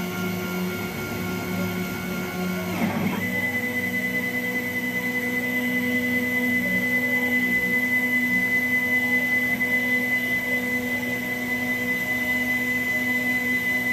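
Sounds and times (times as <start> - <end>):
machine motors whining: 0.0 - 13.9.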